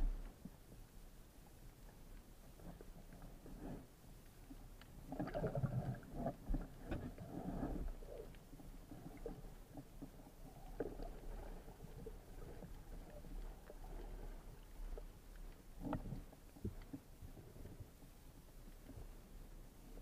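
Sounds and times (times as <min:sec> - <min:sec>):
underwater rumble of moving water: 0:00.0 - 0:20.0.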